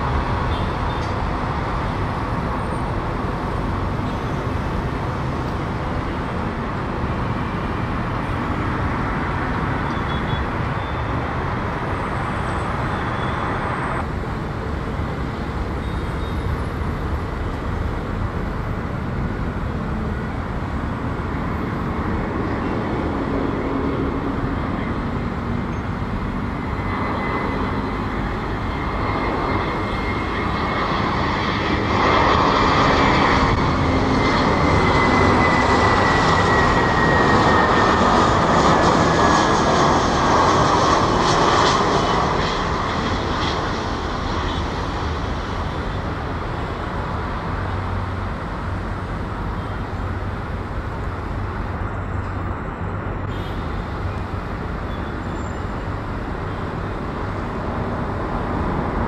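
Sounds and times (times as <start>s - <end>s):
jet engine whine: 0.0s - 59.0s
jet engines rumbling: 0.0s - 59.0s.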